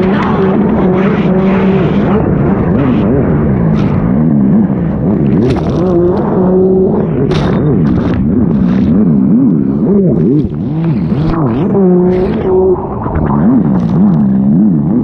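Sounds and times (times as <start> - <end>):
jet ski engine running hard: 0.0 - 15.0.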